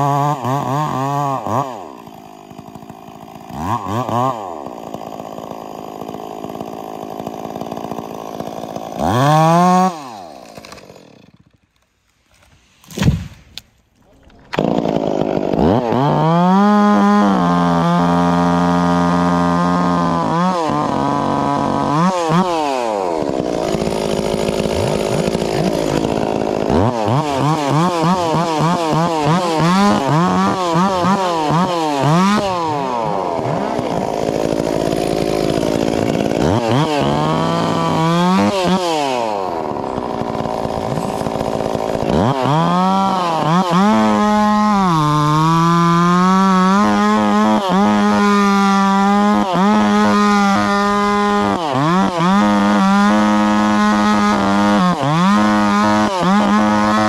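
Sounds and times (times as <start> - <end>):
chainsaw revving: 0.0 - 11.8, 14.3 - 57.0.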